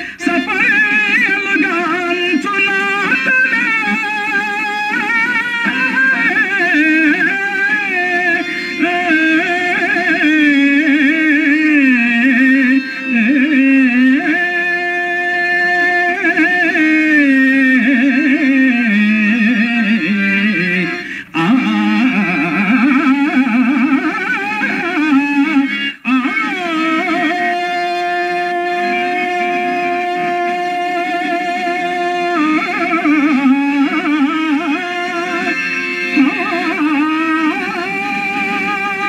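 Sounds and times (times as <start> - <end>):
man singing ornamented verse: 0.0 - 5.0, 6.4 - 39.0
instrument holding steady notes: 0.0 - 39.0.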